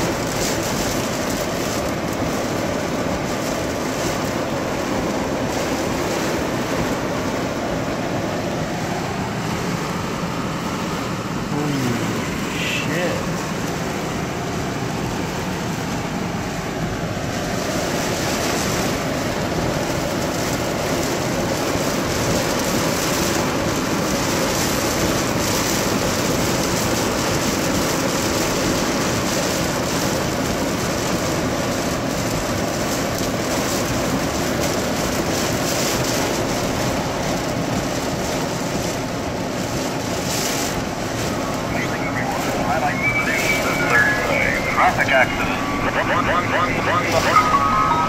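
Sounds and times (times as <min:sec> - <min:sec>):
car driving on wet road: 0:00.0 - 0:48.0
heavy rain on car roof: 0:00.0 - 0:48.0.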